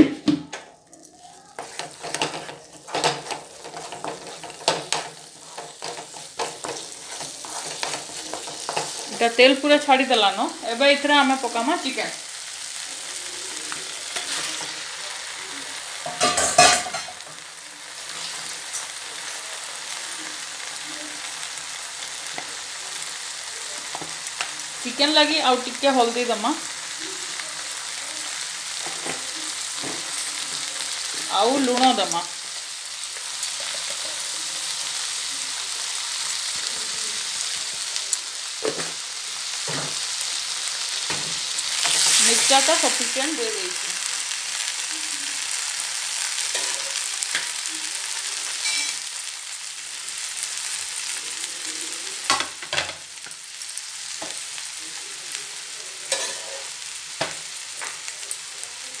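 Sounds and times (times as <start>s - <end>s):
paste sizzling in oil: 0.2s - 59.0s.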